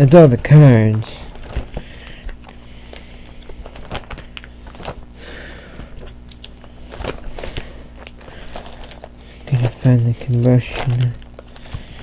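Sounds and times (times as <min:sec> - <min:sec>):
steady low hum: 0:00.0 - 0:12.0
trading cards clicking and rustling: 0:00.0 - 0:12.0.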